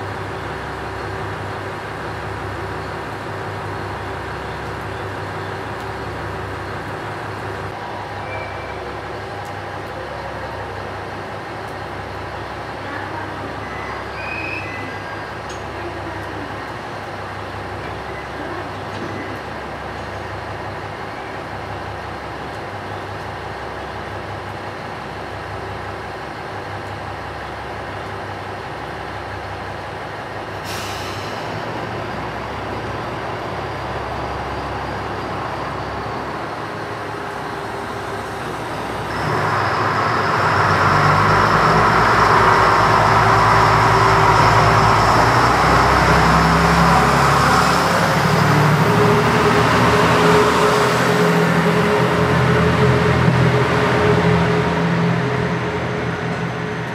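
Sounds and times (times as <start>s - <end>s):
diesel railcar engine running: 0.0s - 56.9s.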